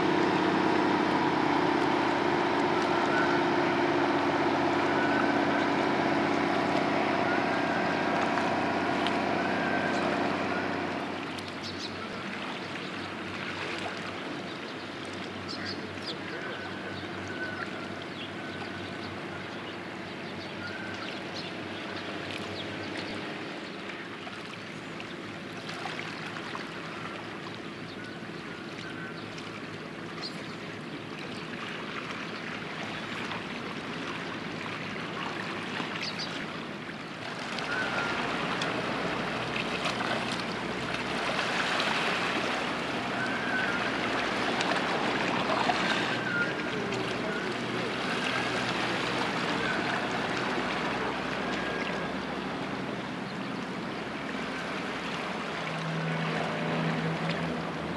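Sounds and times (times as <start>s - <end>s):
low machinery hum: 0.0s - 57.9s
water lapping: 0.0s - 57.9s.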